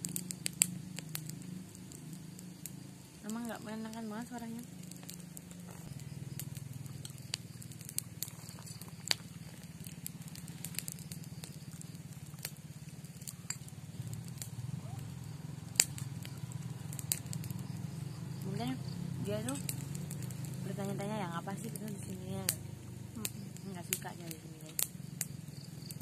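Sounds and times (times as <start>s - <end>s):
sharp clicks and crackles: 0.0s - 26.0s.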